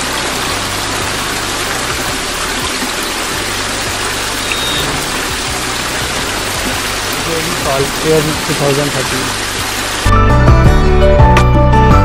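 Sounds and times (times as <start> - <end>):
waterfall splashing on rocks: 0.0 - 10.4.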